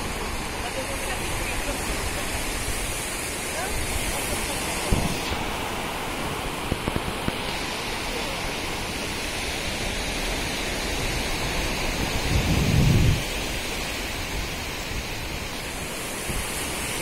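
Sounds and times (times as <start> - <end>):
waves breaking on a beach: 0.0 - 17.0.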